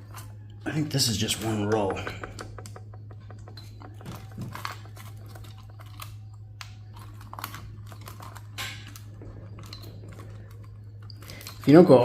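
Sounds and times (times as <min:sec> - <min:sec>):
small parts clicking and tapping: 0:00.0 - 0:12.0
steady low hum: 0:00.0 - 0:12.0.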